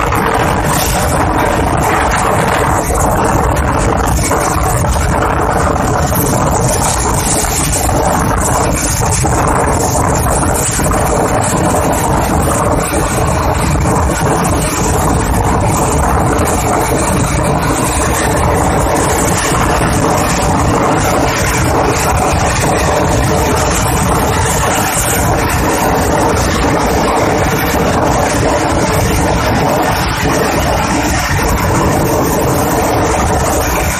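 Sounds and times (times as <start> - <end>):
train rumble: 0.0 - 33.9.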